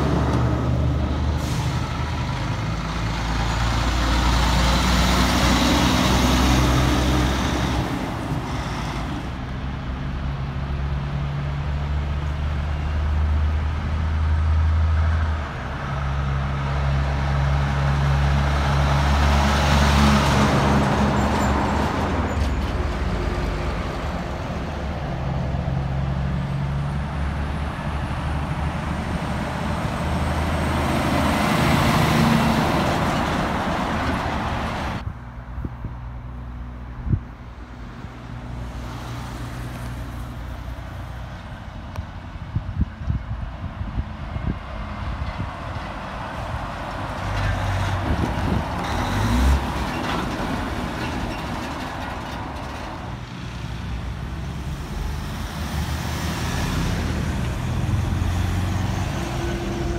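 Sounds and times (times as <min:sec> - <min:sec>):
diesel trucks driving past: 0:00.0 - 0:59.9.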